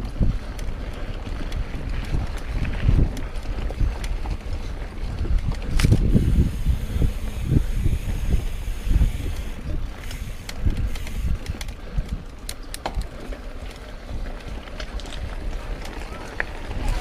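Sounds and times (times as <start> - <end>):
wind on microphone: 0.0 - 13.2, 14.0 - 17.0
bike clicks and rattles: 0.0 - 17.0.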